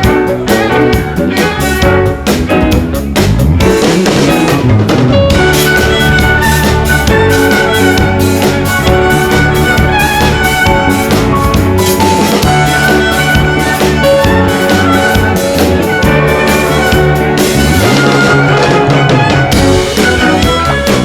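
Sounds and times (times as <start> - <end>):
band music with drum beat: 0.0 - 21.0.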